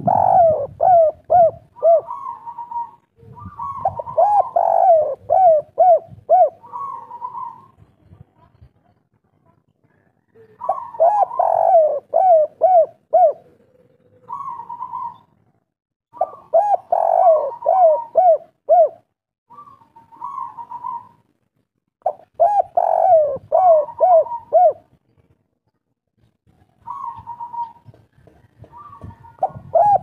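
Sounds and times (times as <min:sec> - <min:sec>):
dove cooing: 0:00.0 - 0:07.8, 0:10.3 - 0:15.5, 0:16.2 - 0:21.2, 0:22.0 - 0:24.9, 0:26.8 - 0:30.0.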